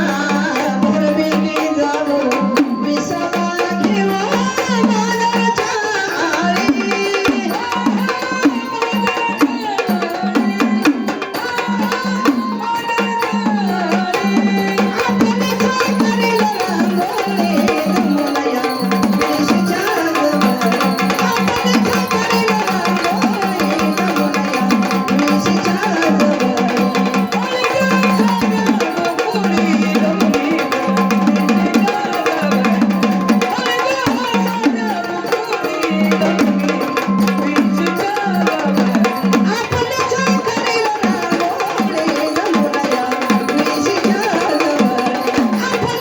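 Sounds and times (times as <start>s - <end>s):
drums beaten fast: 0.0s - 46.0s.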